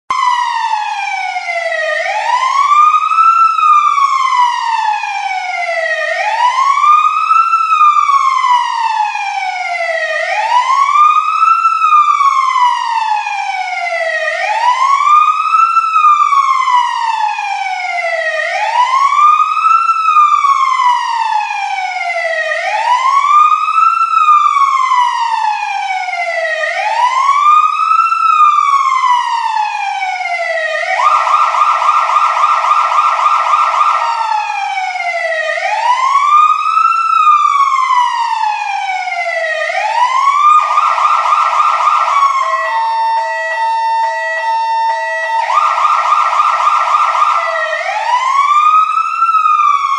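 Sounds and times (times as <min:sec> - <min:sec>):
fire truck siren: 0:00.1 - 0:49.9.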